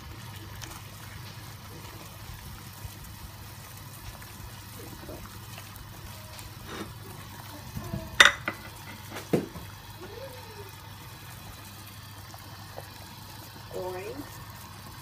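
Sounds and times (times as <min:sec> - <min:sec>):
soup boiling in a pot: 0:00.0 - 0:15.0.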